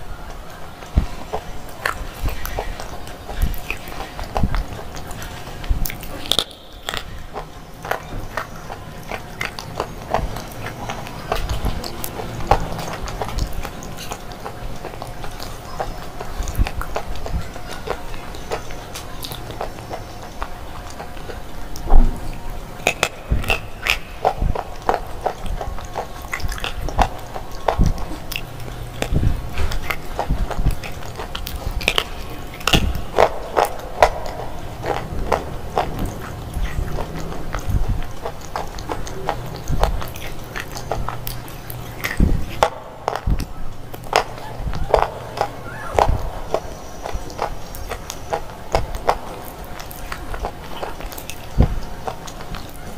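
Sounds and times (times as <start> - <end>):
chewing: 0.0 - 52.9
crunching brittle pieces: 0.0 - 52.9.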